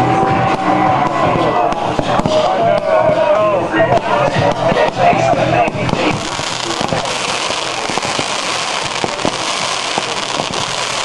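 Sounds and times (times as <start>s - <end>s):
fireworks cracks: 1.7s - 11.0s
fireworks crackling: 1.8s - 11.0s.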